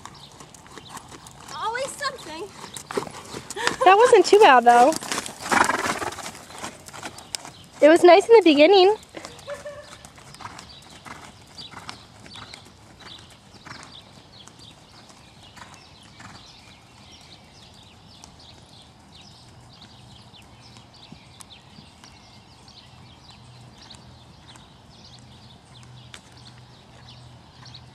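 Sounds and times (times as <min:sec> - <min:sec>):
horse hoofbeats on sand: 0:00.0 - 0:27.9.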